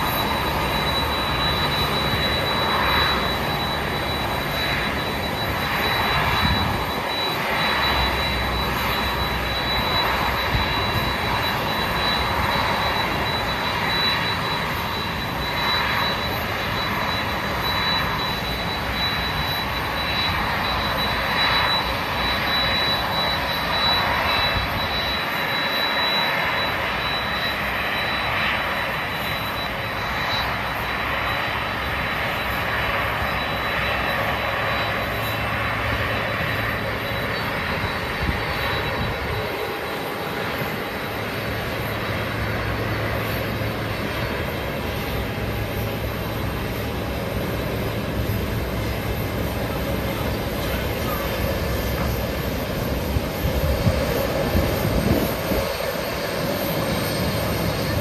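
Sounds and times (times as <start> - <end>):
high-pitched engine whine: 0.0 - 58.0
jet engines rushing: 0.0 - 58.0.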